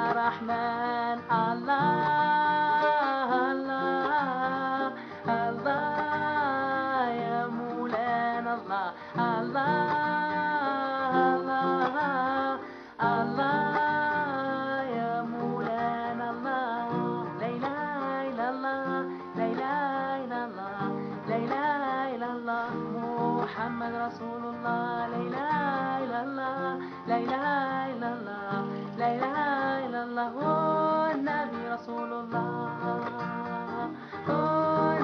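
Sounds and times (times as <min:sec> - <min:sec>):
person singing ornamented melody: 0:00.0 - 0:35.0
strummed acoustic guitar: 0:00.0 - 0:35.0.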